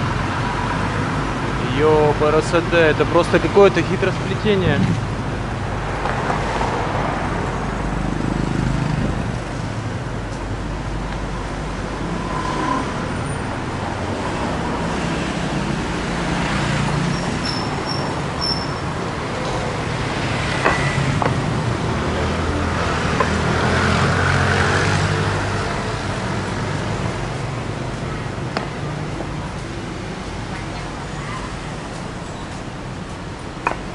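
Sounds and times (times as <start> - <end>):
vehicles driving past: 0.0 - 33.9.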